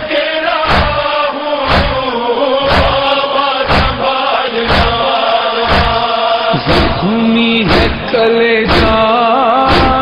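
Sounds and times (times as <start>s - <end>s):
men chanting in long notes: 0.0s - 10.0s
deep beat: 0.6s - 10.0s.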